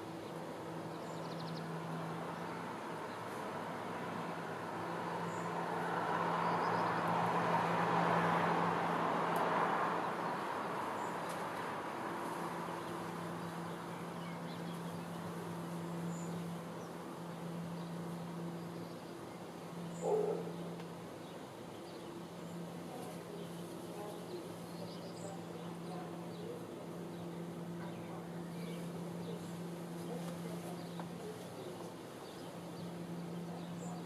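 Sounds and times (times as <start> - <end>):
steady low hum: 0.0 - 34.0
vehicle passing: 0.7 - 31.8, 32.4 - 34.0.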